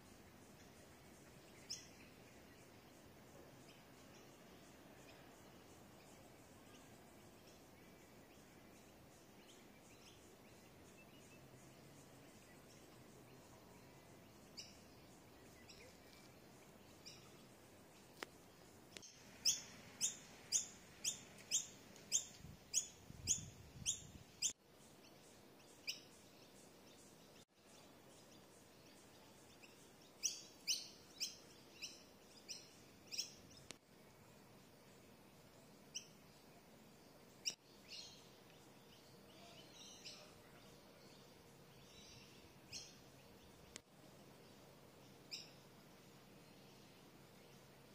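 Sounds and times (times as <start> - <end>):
bird chirping: 0.0 - 33.8, 34.6 - 47.9.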